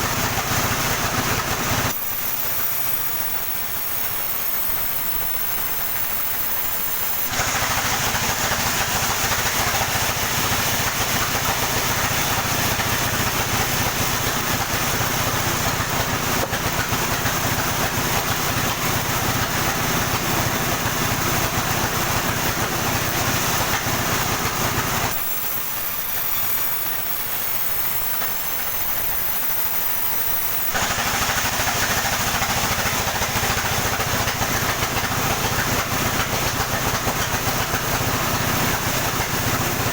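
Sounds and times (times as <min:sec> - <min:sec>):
motor running: 0:00.0 - 0:39.9
saw cutting wood: 0:00.0 - 0:39.9.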